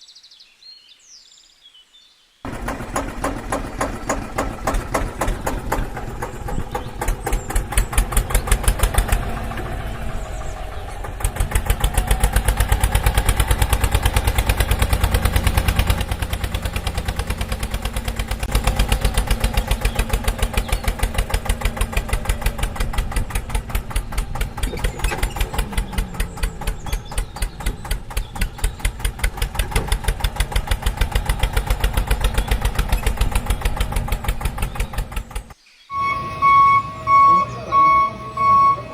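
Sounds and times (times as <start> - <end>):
tractor engine chugging: 2.5 - 38.9.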